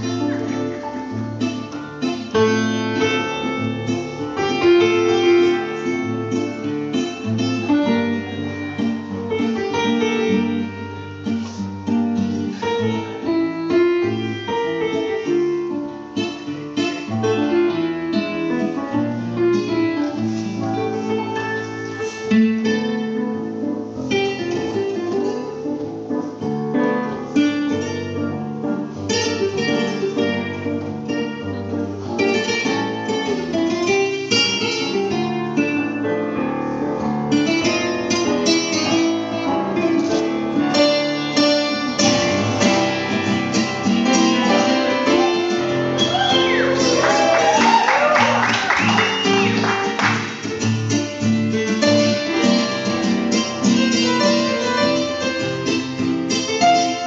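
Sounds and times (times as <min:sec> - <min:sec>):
acoustic guitar music: 0:00.0 - 0:57.0.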